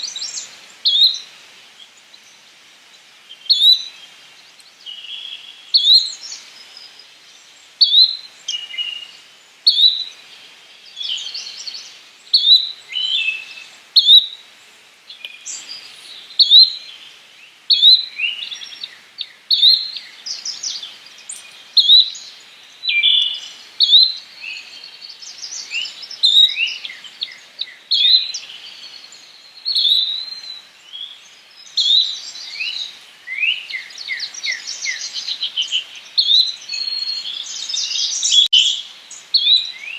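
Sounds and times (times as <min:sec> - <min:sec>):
other birds chirping: 0:00.0 - 0:14.4, 0:15.1 - 0:39.9.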